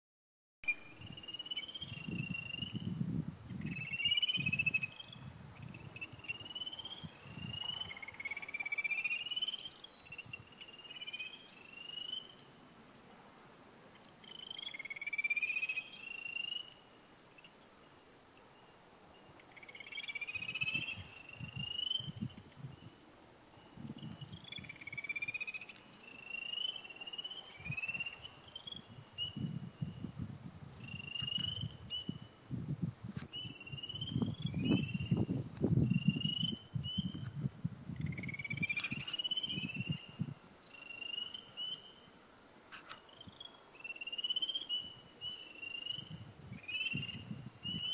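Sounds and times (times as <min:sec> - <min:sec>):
frogs peeping chorus: 0:00.7 - 0:02.9, 0:03.6 - 0:12.6, 0:13.9 - 0:17.6, 0:19.2 - 0:23.0, 0:23.6 - 0:29.4, 0:30.8 - 0:32.2, 0:33.4 - 0:37.2, 0:38.0 - 0:42.1, 0:42.9 - 0:47.9.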